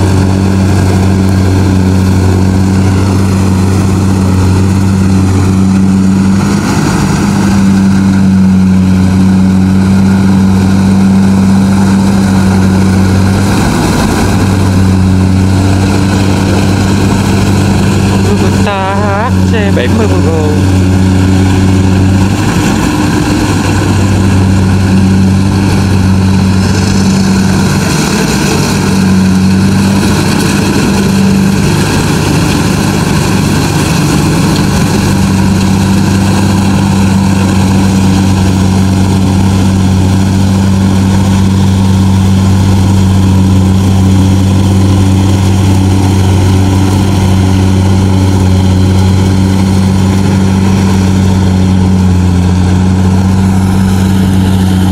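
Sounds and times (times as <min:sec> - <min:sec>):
combine harvester diesel drone: 0:00.0 - 0:54.9
mechanical rushing noise: 0:00.0 - 0:54.9.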